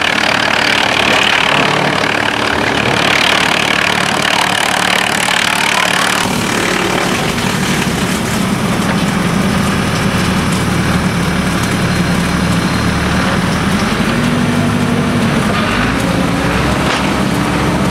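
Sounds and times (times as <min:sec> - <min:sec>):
wood chipper humming: 0:00.0 - 0:17.9.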